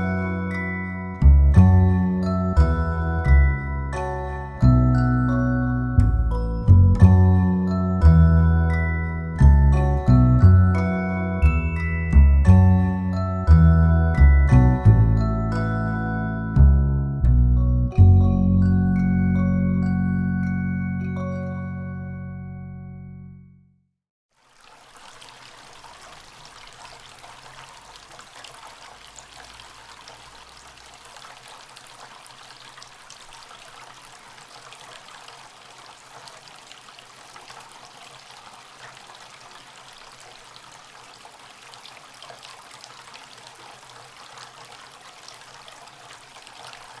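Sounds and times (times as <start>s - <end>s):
water falling and trickling: 0.0s - 15.7s, 24.3s - 47.0s.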